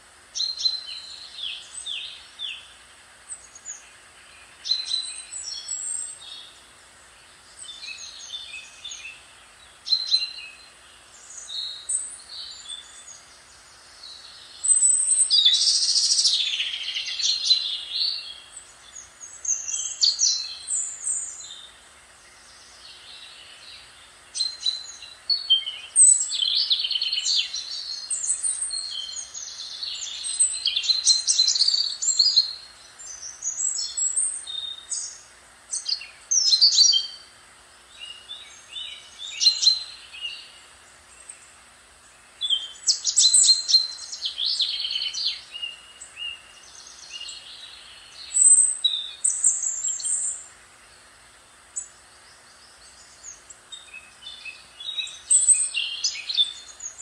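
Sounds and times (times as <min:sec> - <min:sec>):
faint hiss: 0:00.0 - 0:57.0
songbirds chirping: 0:00.0 - 0:57.0.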